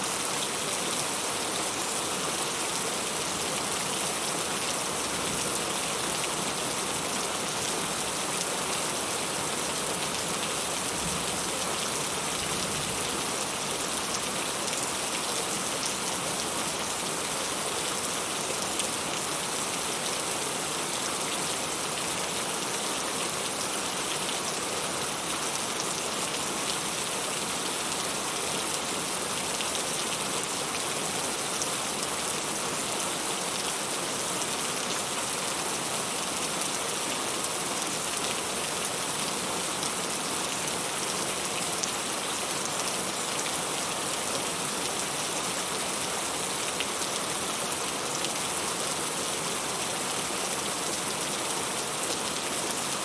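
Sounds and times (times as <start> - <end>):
heavy rain falling: 0.1 - 53.0.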